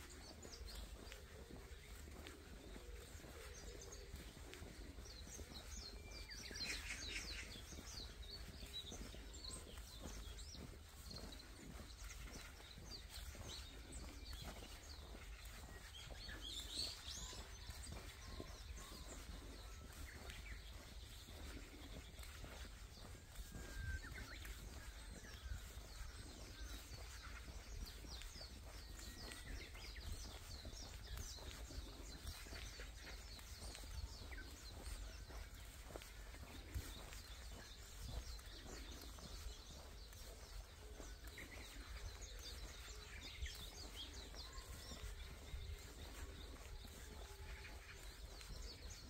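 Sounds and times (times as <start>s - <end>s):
footsteps: 0.0s - 49.0s
small birds chirping: 0.0s - 49.0s.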